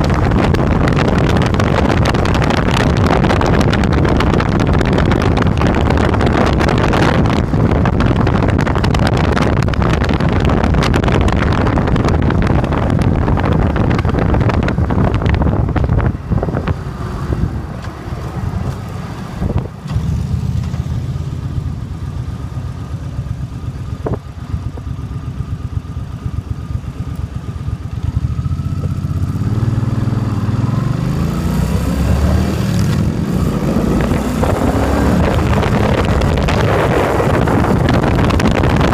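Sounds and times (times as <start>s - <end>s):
wind rush on microphone: 0.0s - 21.7s, 23.9s - 24.8s, 28.1s - 38.9s
motorcycle engine running: 0.0s - 38.9s.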